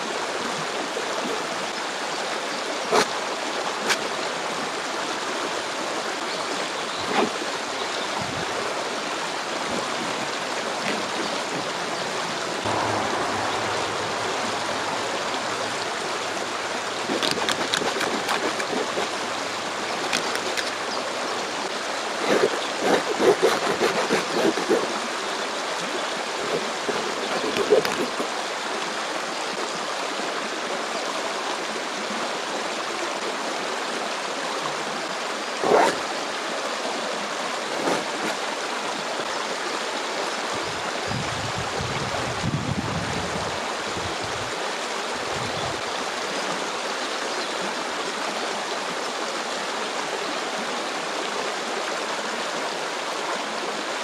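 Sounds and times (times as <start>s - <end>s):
stream of flowing water: 0.0s - 54.0s.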